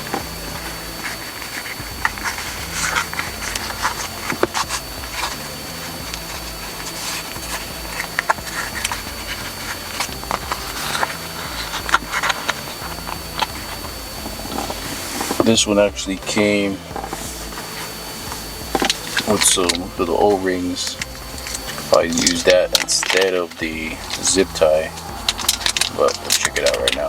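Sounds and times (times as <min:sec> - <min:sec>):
rustling: 0:00.0 - 0:27.0.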